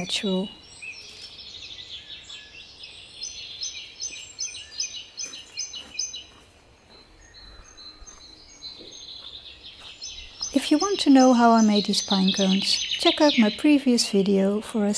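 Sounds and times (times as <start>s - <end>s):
faint outdoor background noise: 0.0s - 14.9s
songbirds chirping and trilling: 0.0s - 14.9s.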